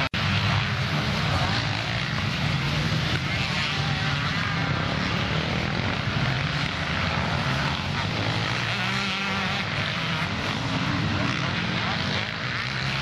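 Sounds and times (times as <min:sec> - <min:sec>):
distant motorbike engines: 0:00.0 - 0:13.0
motocross bikes revving past: 0:00.0 - 0:13.0.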